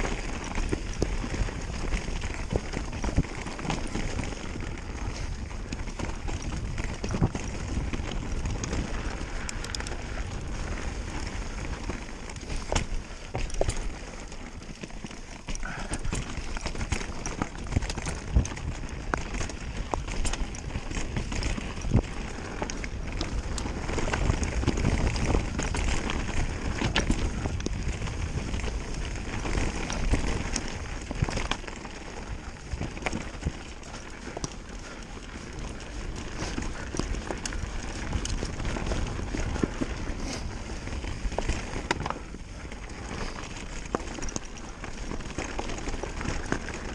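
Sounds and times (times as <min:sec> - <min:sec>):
bike clattering over bumps: 0:00.0 - 0:46.9
tyres crunching over stones and leaves: 0:00.0 - 0:46.9.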